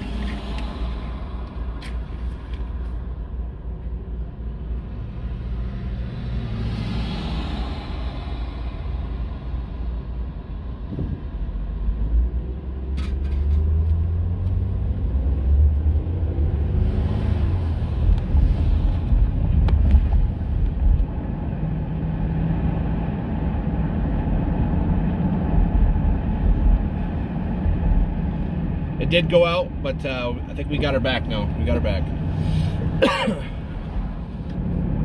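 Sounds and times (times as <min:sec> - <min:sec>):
car road and engine rumble: 0:00.0 - 0:35.0.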